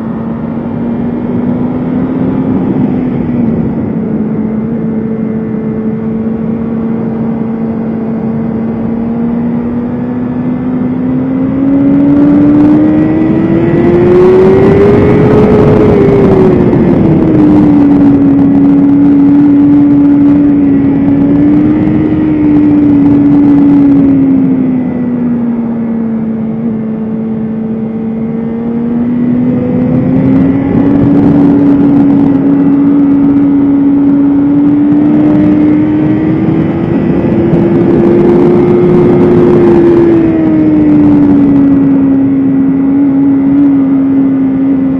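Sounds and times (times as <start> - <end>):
motorcycle engine running hard: 0.0 - 44.9.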